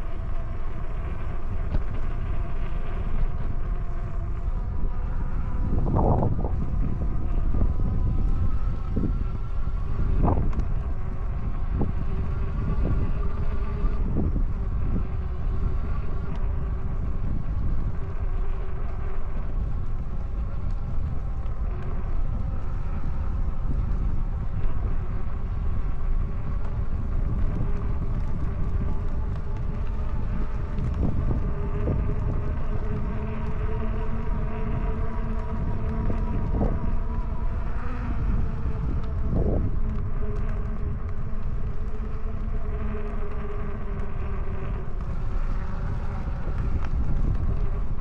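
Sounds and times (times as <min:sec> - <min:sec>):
electric motor whine: 0:00.0 - 0:48.0
wind rumbling on microphone: 0:00.0 - 0:48.0.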